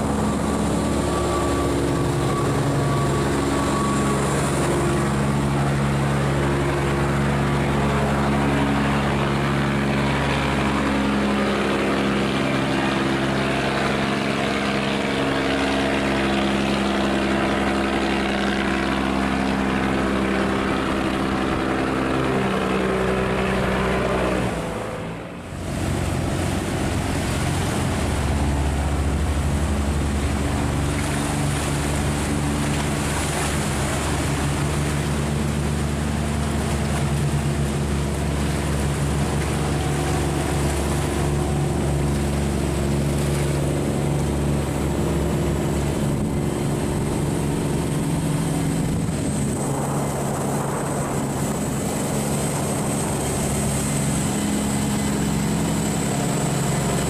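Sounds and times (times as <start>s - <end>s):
boat diesel engine running: 0.0s - 57.0s
water churning: 0.0s - 57.0s.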